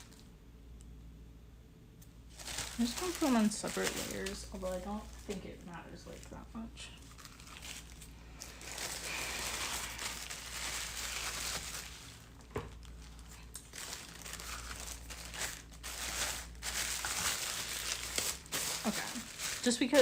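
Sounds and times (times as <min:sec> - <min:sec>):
plastic sheeting crinkling: 0:00.0 - 0:00.3, 0:02.3 - 0:20.0.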